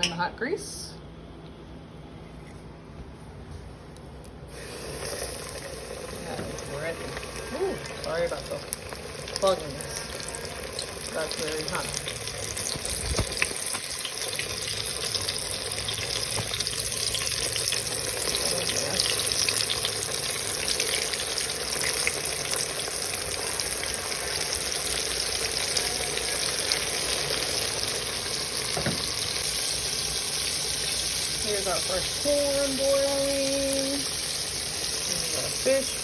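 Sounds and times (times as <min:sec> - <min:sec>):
fish frying in grease: 0:04.5 - 0:36.0.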